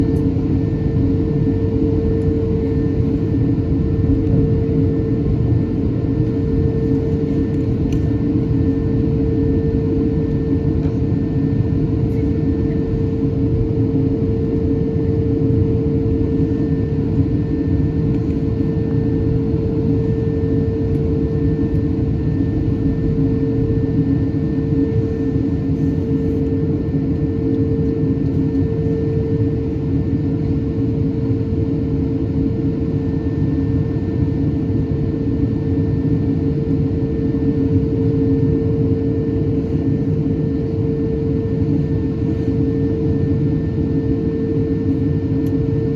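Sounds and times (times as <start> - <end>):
airliner cabin rumble: 0.0 - 45.9
steady tonal hum: 0.0 - 45.9.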